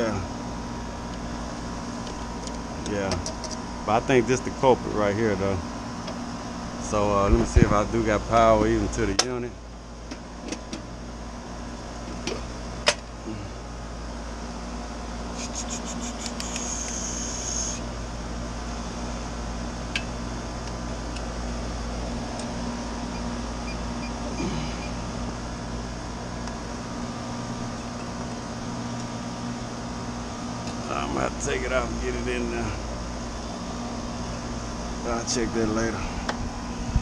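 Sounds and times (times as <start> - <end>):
air conditioner humming: 0.0 - 37.0.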